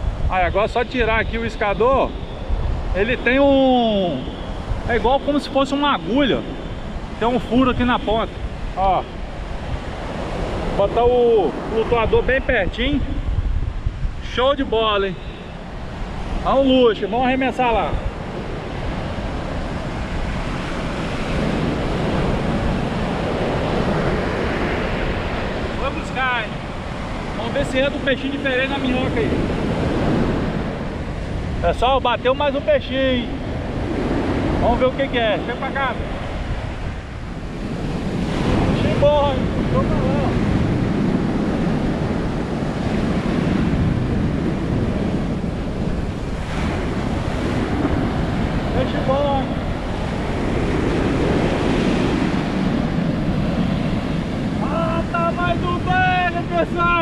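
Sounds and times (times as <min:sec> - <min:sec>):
ocean surf washing onto beach: 0:00.0 - 0:57.0
wind buffeting microphone: 0:00.0 - 0:57.0.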